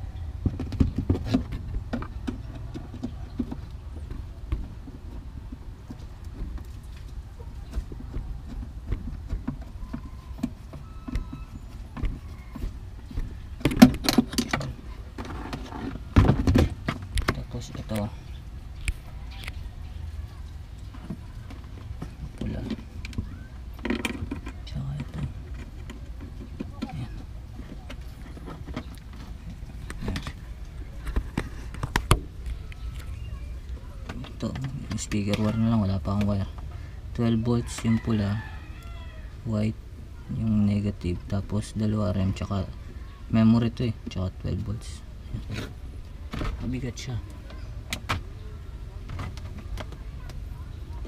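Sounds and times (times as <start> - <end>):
rustling of wires: 0.0 - 51.0.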